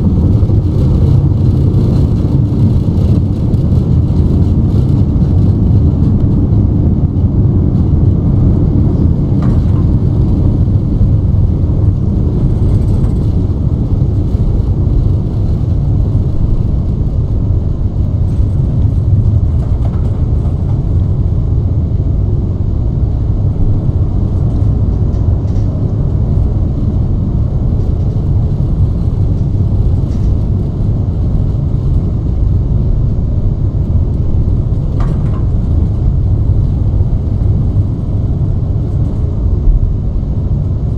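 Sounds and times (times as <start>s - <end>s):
airliner engines rumbling: 0.0s - 40.9s
rushing air: 0.0s - 40.9s.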